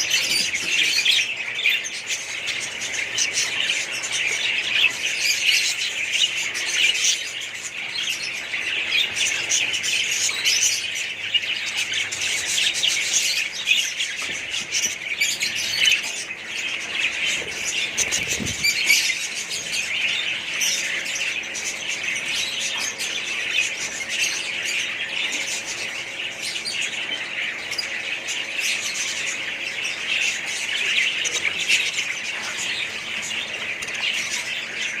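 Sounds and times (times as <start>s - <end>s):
small birds chirping and squawking: 0.0s - 35.0s.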